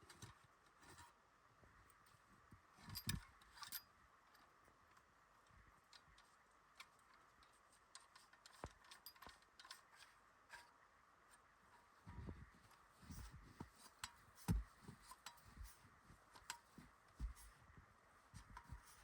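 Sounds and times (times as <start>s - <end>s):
faint clicks and light knocks: 2.8s - 19.0s.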